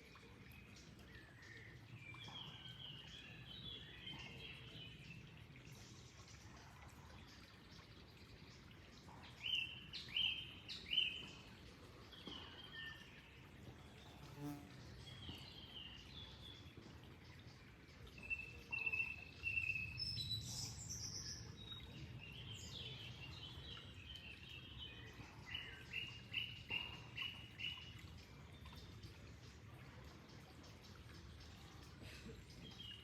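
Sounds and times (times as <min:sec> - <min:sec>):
small birds singing: 0:00.1 - 0:33.0.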